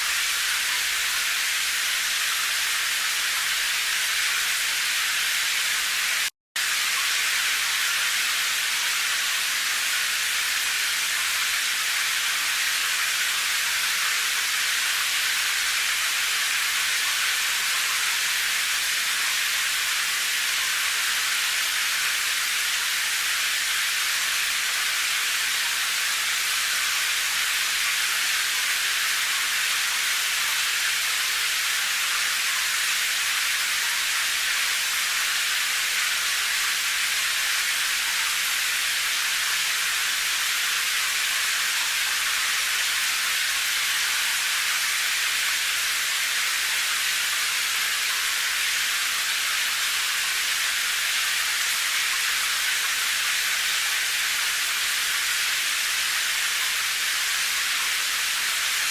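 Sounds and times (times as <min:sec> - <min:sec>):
heavy rain hissing: 0:00.0 - 0:58.9.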